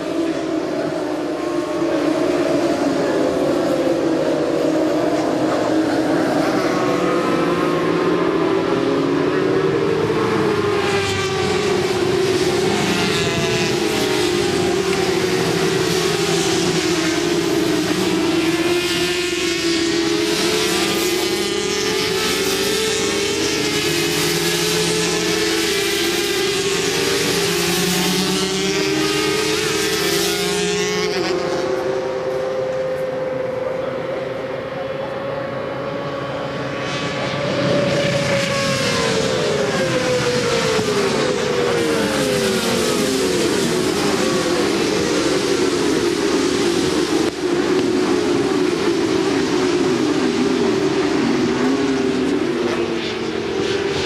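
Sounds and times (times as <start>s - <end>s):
motorcycle engines at high revs: 0.0s - 54.0s.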